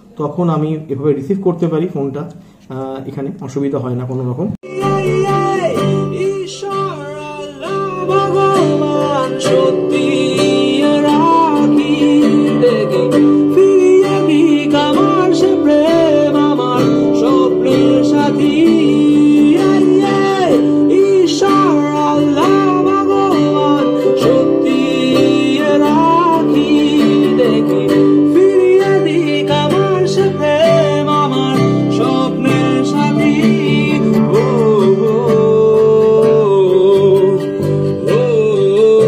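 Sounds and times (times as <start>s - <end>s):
song with singer and guitar: 4.6s - 39.0s.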